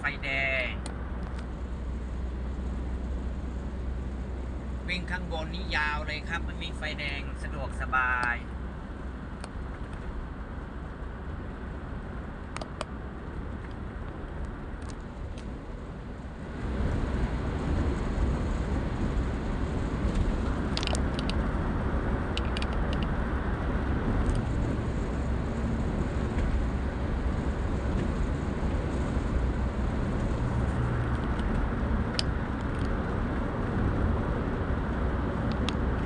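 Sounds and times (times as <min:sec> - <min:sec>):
vehicle road and engine noise: 0:00.0 - 0:36.0.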